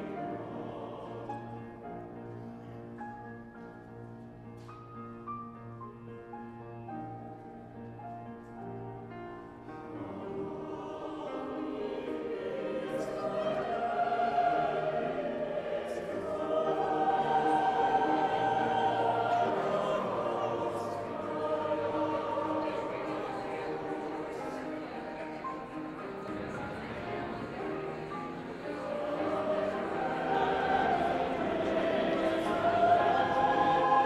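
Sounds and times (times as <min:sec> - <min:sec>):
choir singing: 0:00.0 - 0:03.6, 0:09.0 - 0:34.0.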